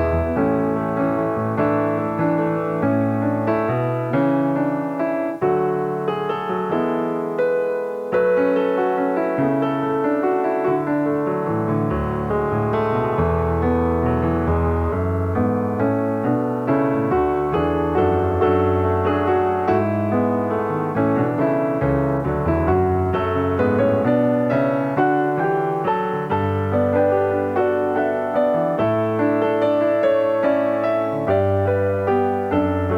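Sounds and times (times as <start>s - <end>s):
background piano music: 0.0s - 32.9s.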